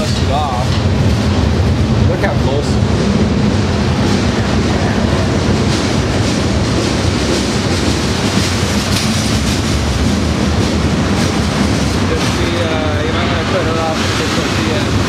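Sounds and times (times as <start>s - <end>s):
freight train rumbling in tunnel: 0.0s - 15.0s.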